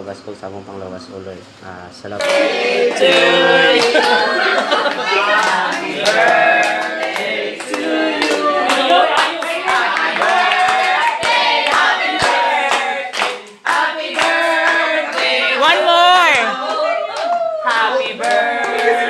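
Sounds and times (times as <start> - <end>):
group singing: 2.2 - 19.0
people clapping along: 2.2 - 19.0.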